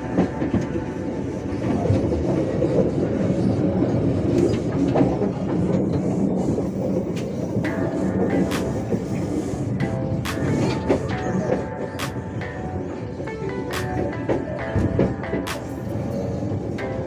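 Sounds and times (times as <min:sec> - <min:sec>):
rail clicks: 0:00.0 - 0:17.0
train wheels on track: 0:00.0 - 0:17.0.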